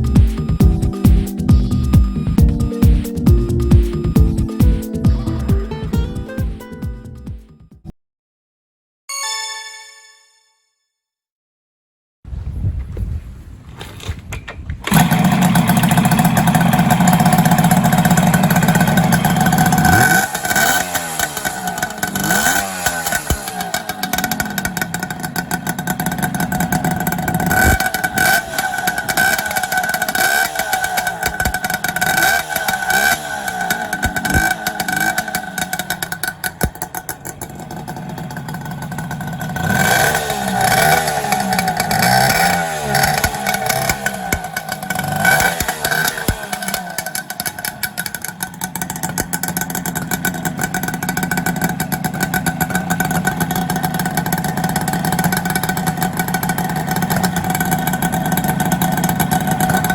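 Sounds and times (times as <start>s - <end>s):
two-stroke engine revving: 0.0s - 6.0s, 14.9s - 59.9s.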